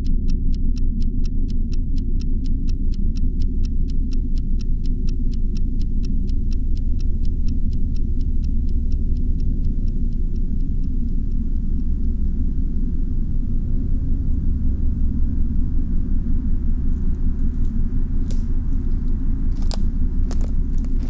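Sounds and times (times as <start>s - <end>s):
fast clock-like ticking: 0.0s - 21.0s
low rumbling drone: 0.0s - 21.0s.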